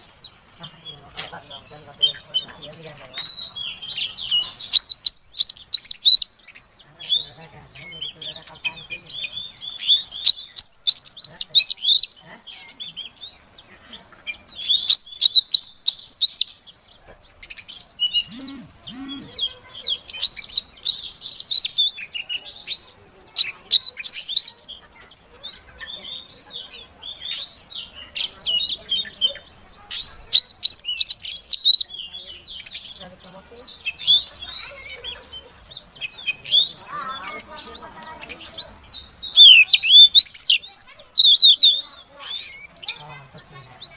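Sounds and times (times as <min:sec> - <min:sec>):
bird chirping and twittering: 0:00.0 - 0:43.9.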